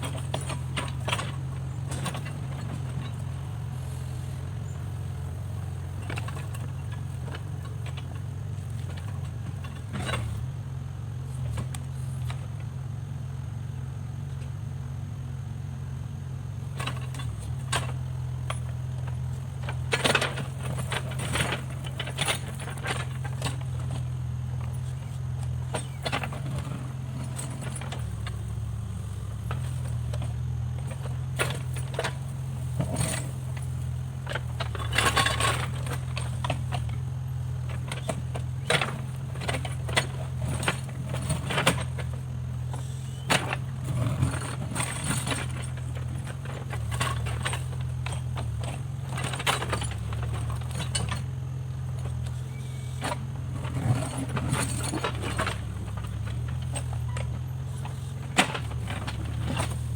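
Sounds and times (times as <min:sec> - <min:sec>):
metallic clanks and rattles: 0:00.0 - 0:10.4, 0:16.8 - 0:59.9
backhoe diesel engine running: 0:00.0 - 0:59.9.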